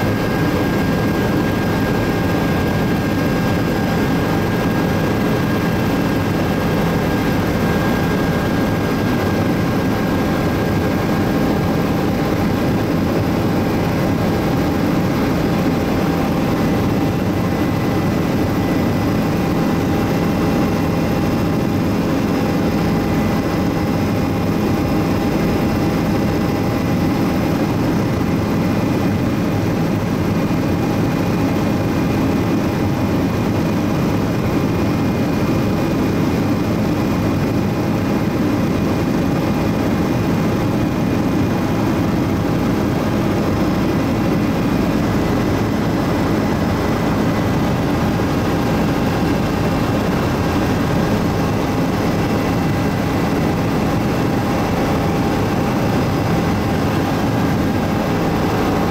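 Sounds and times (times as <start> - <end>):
helicopter cabin rotor rumble: 0.0 - 58.9
turbine engine whine: 0.0 - 58.9.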